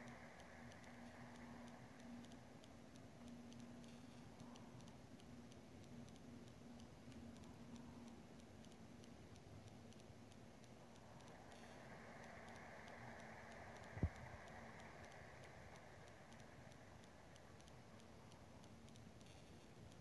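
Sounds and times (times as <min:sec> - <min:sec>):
faint irregular clicks: 0:00.0 - 0:20.0
low hum: 0:00.0 - 0:20.0.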